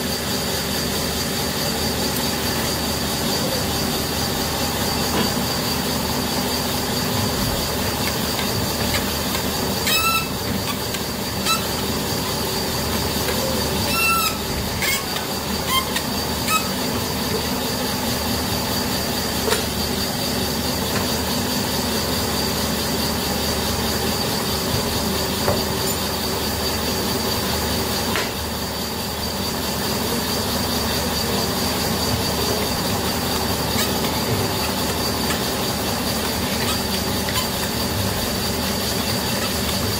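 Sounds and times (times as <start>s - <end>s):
boring machine humming with whine: 0.0s - 39.9s.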